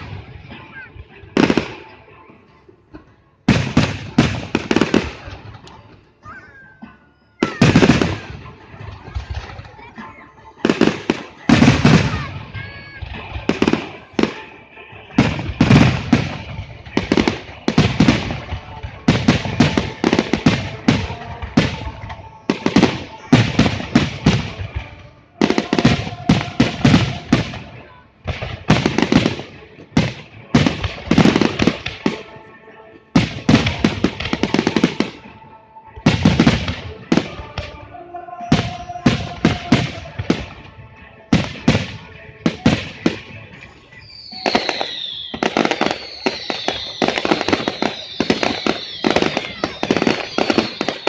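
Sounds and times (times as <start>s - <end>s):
fireworks bursting with echo: 0.0s - 2.4s, 3.0s - 6.2s, 7.4s - 51.0s.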